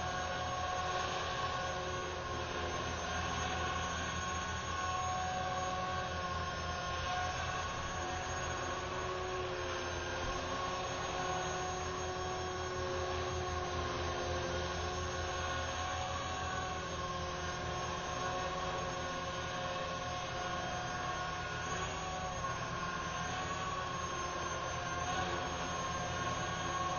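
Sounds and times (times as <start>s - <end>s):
electric motor and gear whine: 0.0s - 26.9s.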